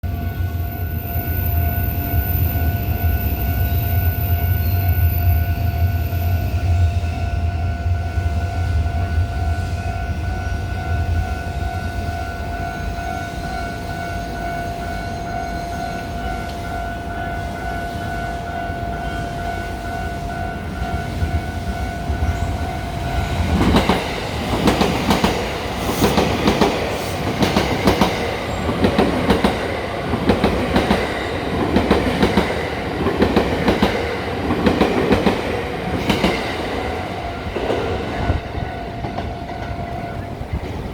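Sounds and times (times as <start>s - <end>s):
level-crossing warning bell: 0.0s - 40.9s.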